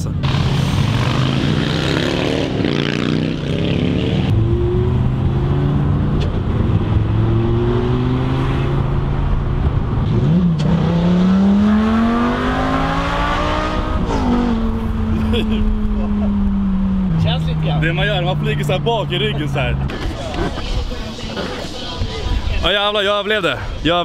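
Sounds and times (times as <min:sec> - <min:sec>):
car engine accelerating: 0:00.2 - 0:20.6.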